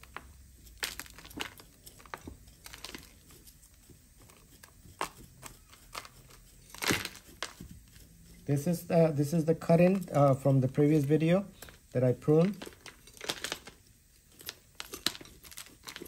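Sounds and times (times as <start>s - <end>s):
metal pick scraping through soil: 1.5s - 16.0s.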